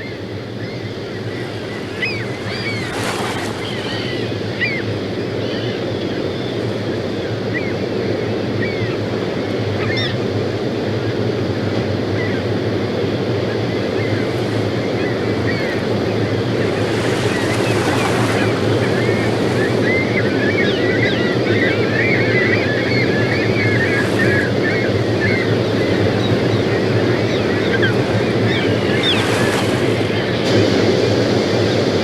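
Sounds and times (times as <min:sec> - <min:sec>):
gulls calling: 0:00.0 - 0:32.0.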